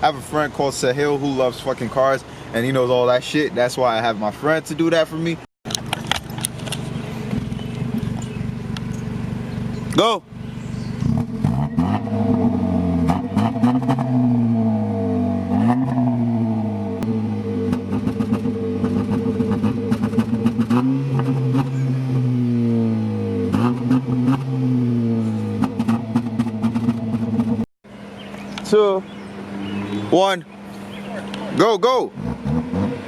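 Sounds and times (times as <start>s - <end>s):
car engine revving: 5.7s - 33.0s.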